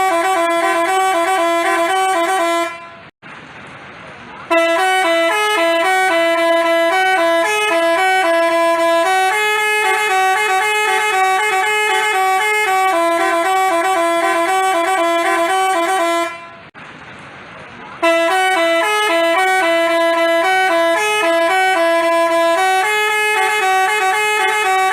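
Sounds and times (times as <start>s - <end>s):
bus horn playing a tune: 0.0s - 3.1s, 4.5s - 16.8s, 18.0s - 24.9s.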